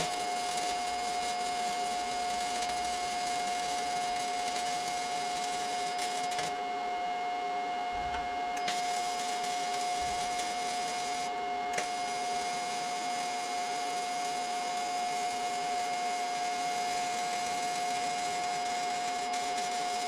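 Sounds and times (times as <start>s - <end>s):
machine engine running with whine: 0.0s - 20.0s.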